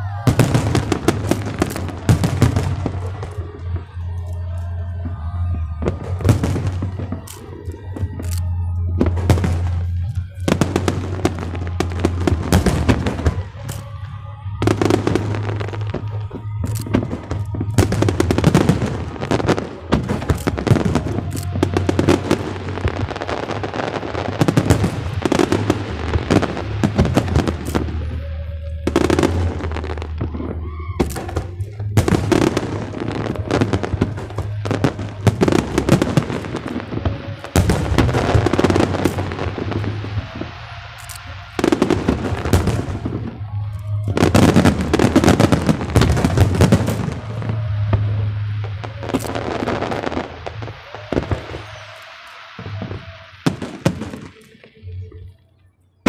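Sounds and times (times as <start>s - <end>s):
aerial fireworks bursting and crackling: 0.0s - 55.1s
music playing: 0.0s - 56.0s.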